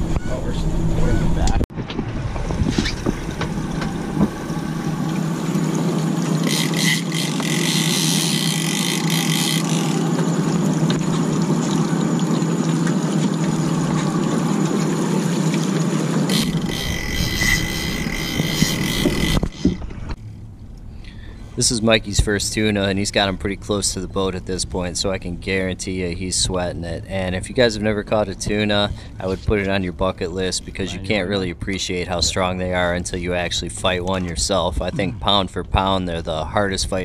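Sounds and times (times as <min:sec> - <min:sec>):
high steady whine: 0:00.0 - 0:34.7
outboard motors running: 0:00.0 - 0:37.0
water rushing along hull: 0:02.0 - 0:37.0.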